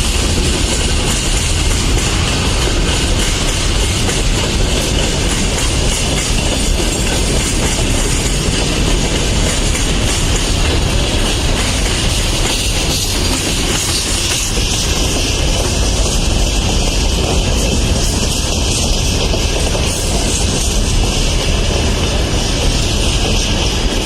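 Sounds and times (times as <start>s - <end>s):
freight train wheels on rails: 0.0s - 24.0s.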